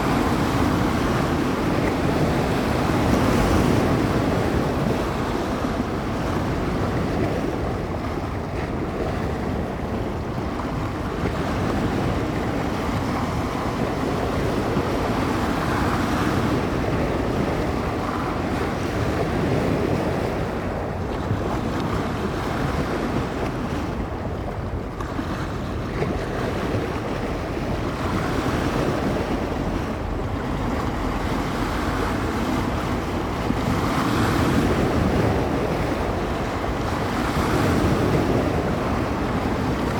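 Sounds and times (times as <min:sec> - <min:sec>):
waves breaking on shore: 0:00.0 - 0:39.9
wind on microphone: 0:00.0 - 0:39.9.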